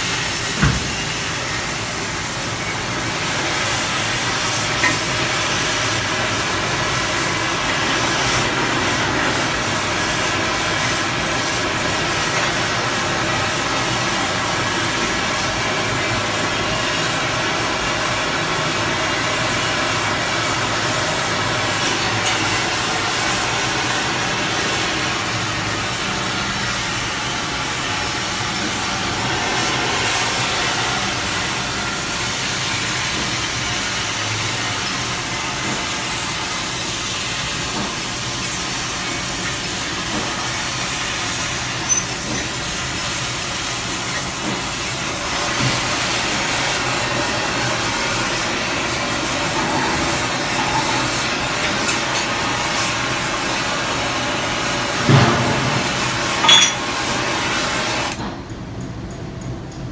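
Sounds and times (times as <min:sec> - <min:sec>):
hiss of metal cutting: 0:00.0 - 0:58.2.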